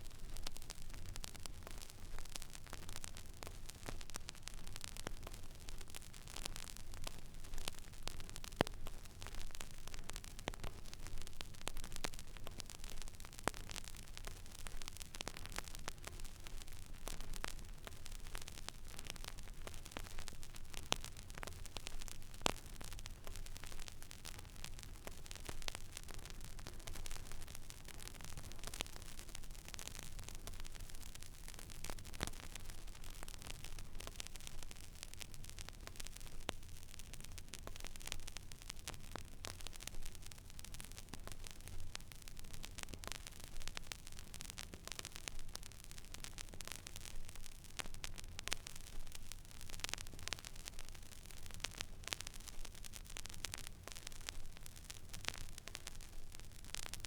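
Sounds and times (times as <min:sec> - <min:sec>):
vinyl surface hiss and crackles: 0:00.0 - 0:57.0.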